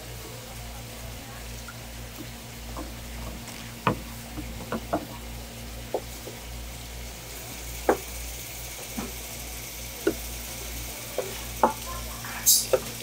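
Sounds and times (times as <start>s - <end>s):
running tap water: 0.0s - 13.0s.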